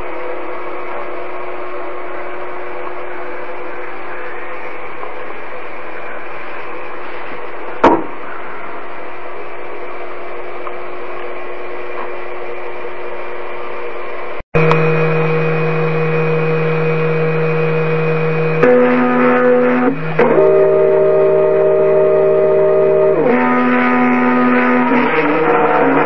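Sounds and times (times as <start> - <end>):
motor hum: 0.0 - 26.0
router spindle whine: 0.0 - 26.0.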